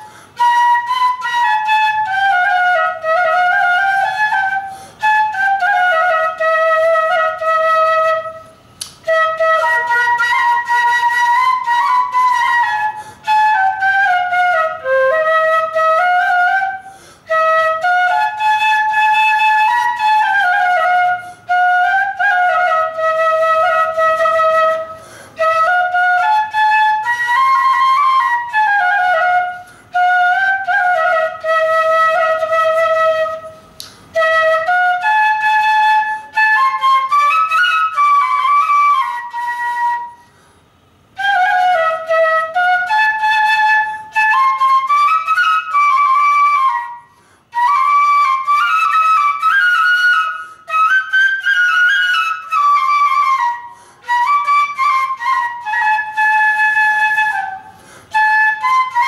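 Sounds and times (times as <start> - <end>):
bamboo flute melody: 0.0 - 59.0.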